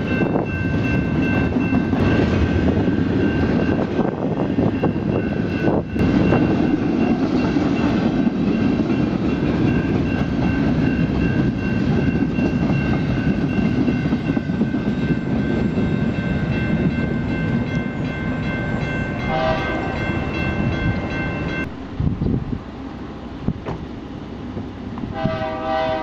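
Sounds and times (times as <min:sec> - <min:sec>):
crossing warning bell ringing: 0:00.0 - 0:21.8
freight train rumbling by: 0:00.0 - 0:26.0.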